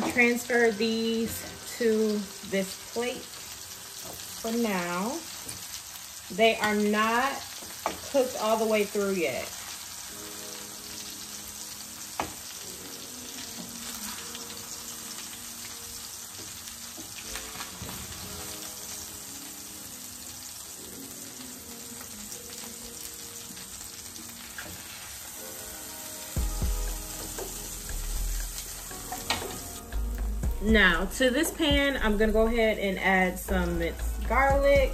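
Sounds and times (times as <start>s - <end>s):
chicken sizzling in skillet: 0.0s - 30.0s.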